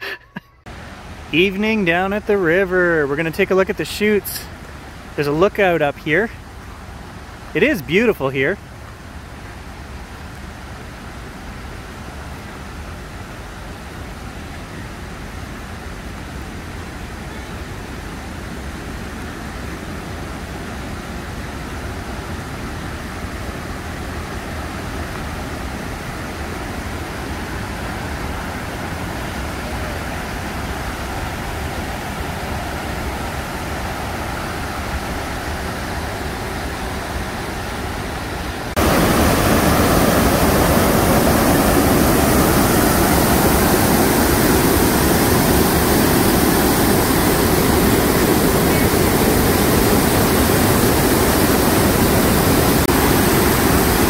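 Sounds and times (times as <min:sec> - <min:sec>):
river rapids rushing: 0:00.7 - 0:54.0.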